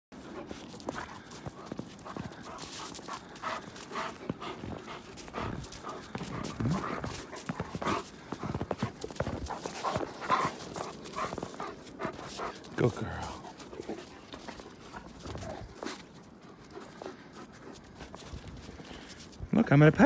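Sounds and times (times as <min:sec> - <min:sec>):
wolves growling and snarling: 0:00.2 - 0:18.9
paws scuffling in snow: 0:00.2 - 0:20.0.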